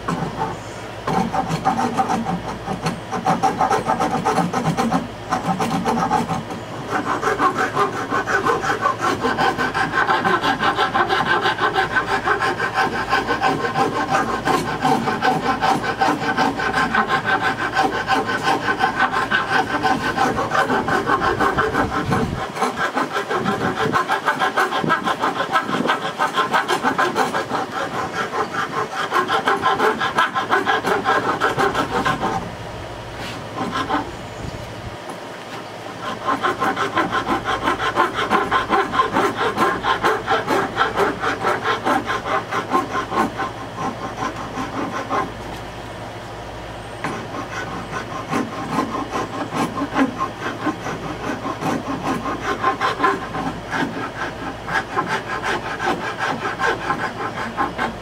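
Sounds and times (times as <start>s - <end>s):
file scraping wood: 0.0s - 46.0s, 46.6s - 58.0s.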